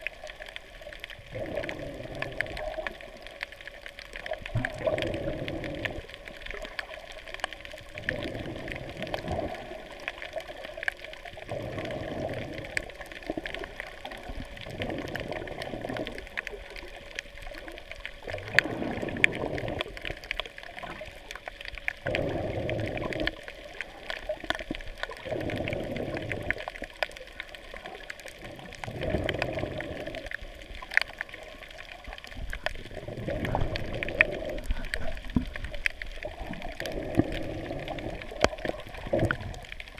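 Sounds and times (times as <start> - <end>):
faint clicks: 0.0 - 39.9
muffled underwater swishes: 0.0 - 39.9.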